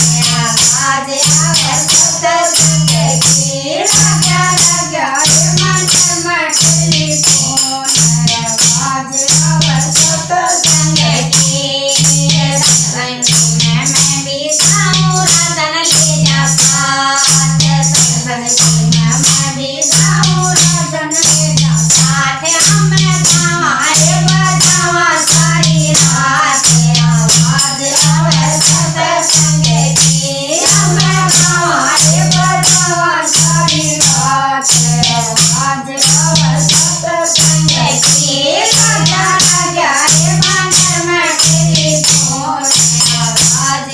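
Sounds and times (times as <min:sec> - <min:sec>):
jingling hand percussion: 0:00.0 - 0:43.9
person singing: 0:00.0 - 0:43.9.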